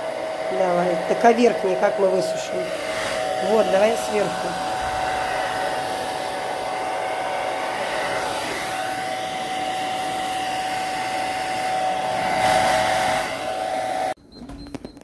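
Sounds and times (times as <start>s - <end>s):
hair dryer blowing: 0.0s - 14.2s.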